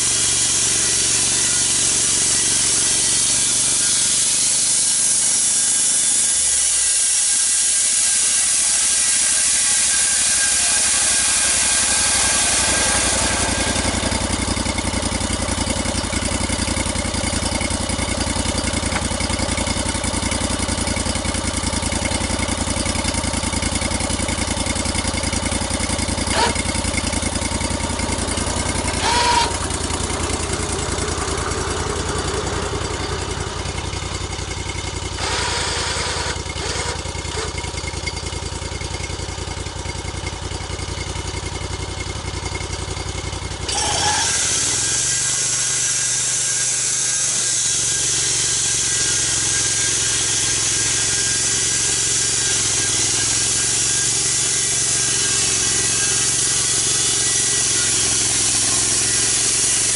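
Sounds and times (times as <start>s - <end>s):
saw blade cutting log: 0.0s - 39.6s, 41.9s - 59.9s
sawmill engine running: 0.0s - 59.9s.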